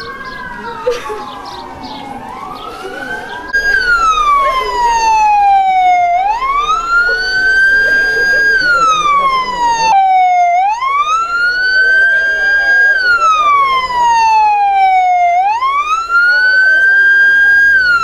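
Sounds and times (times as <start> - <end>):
police siren wailing: 0.0 - 18.0.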